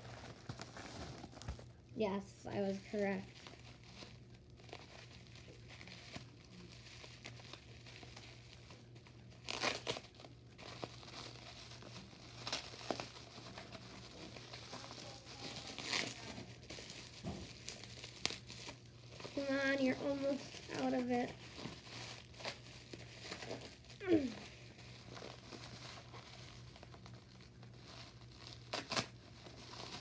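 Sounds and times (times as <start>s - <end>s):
plastic packaging crinkling: 0.0s - 1.9s, 2.5s - 30.0s
faint low hum: 0.0s - 30.0s.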